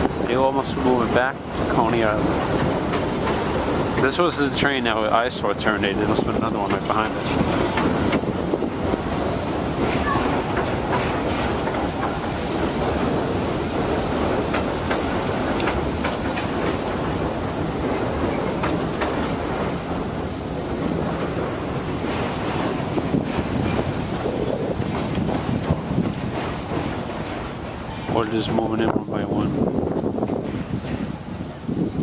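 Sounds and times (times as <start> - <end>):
clicks over rail joints: 0.0 - 32.0
train wheels rumbling on rail: 0.0 - 32.0.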